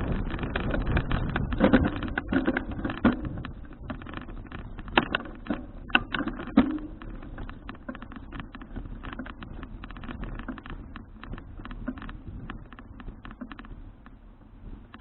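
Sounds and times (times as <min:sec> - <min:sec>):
bicycle rattling and clicking: 0:00.0 - 0:15.0
low rumble: 0:00.0 - 0:15.0.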